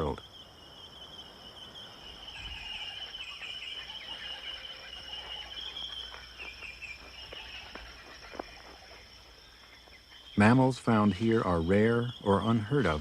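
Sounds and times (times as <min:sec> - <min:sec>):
insects chirping chorus: 0:00.0 - 0:13.0.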